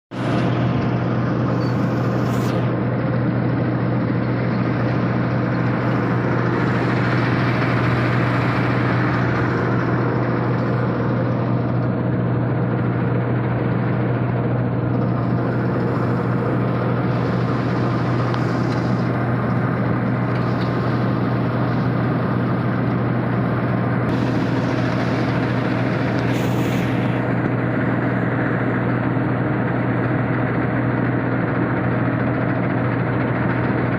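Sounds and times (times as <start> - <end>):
harvester engine hum: 0.1 - 33.9.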